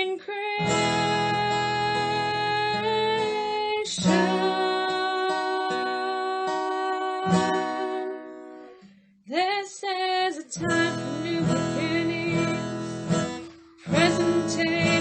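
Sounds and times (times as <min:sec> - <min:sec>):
strummed acoustic guitar: 0:00.0 - 0:09.2, 0:10.6 - 0:15.0
person singing: 0:00.0 - 0:15.0.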